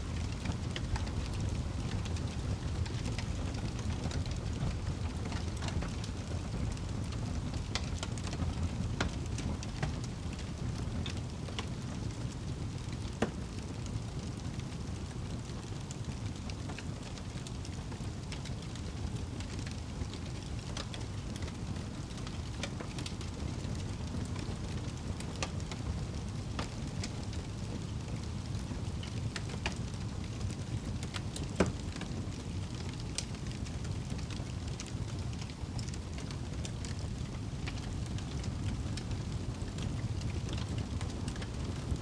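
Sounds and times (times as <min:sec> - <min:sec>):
fire crackling and popping: 0:00.0 - 0:42.0
low rumble of flames: 0:00.0 - 0:42.0.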